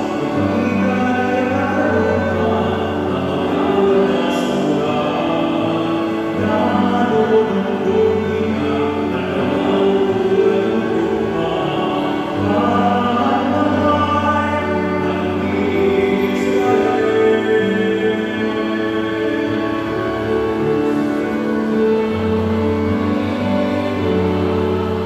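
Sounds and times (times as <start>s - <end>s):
man singing into a microphone: 0.0s - 25.0s
musical accompaniment with bass notes: 0.0s - 25.0s.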